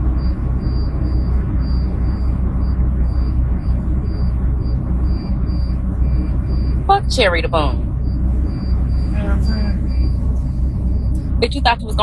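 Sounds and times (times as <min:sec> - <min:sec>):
faint high-pitched beep: 0:00.0 - 0:10.4
car cabin road rumble: 0:00.0 - 0:12.0.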